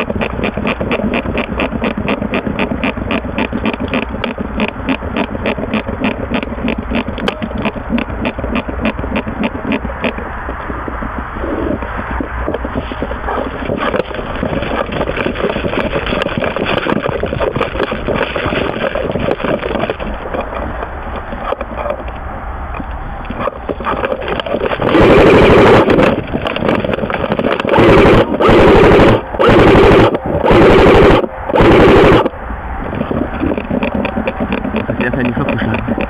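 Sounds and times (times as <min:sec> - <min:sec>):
steady dense noise: 0:00.0 - 0:36.0.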